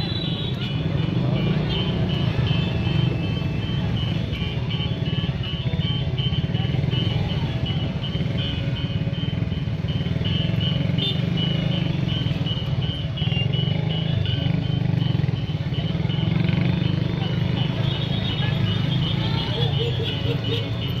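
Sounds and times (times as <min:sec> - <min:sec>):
scooter engines droning: 0:00.0 - 0:21.0.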